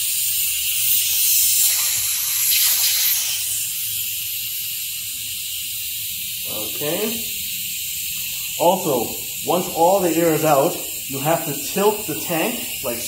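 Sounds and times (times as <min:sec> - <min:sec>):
compressed air hissing from valve: 0:00.0 - 0:13.0.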